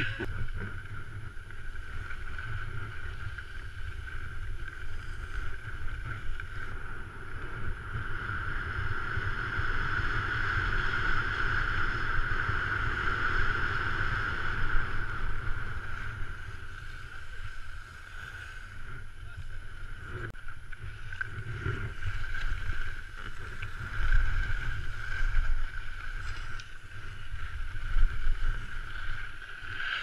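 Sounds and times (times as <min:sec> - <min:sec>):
skis scraping over hard snow: 0:00.0 - 0:07.9, 0:08.7 - 0:30.0
wind rumble on microphone: 0:00.0 - 0:30.0.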